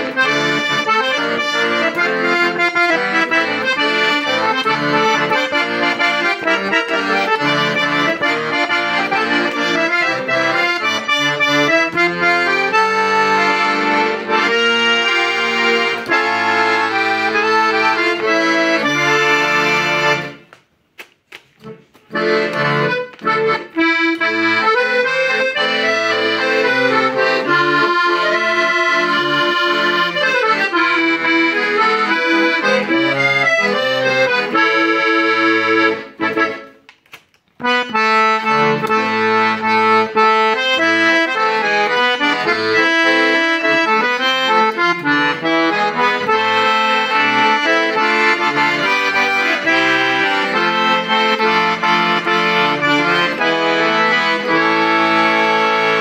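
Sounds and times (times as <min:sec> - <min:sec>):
piano accordion playing: 0:00.0 - 0:20.6, 0:21.6 - 0:37.0, 0:37.6 - 0:56.0.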